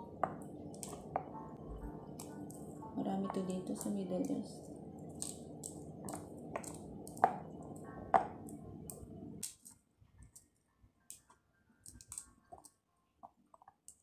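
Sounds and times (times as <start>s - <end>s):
low background hum: 0.0s - 13.1s
pomegranate seeds clicking and cracking: 0.2s - 1.2s, 2.1s - 14.0s.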